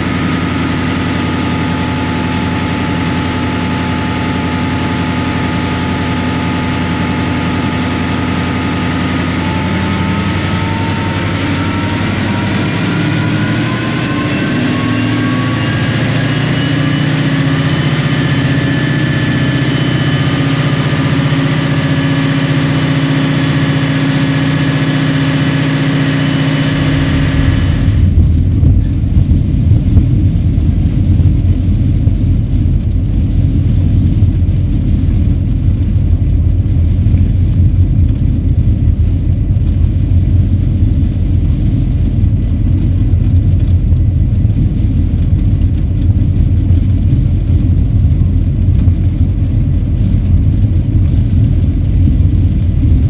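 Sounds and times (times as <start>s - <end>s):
locomotive diesel engine rumble: 0.0s - 53.0s
turbocharger whine: 0.0s - 53.0s.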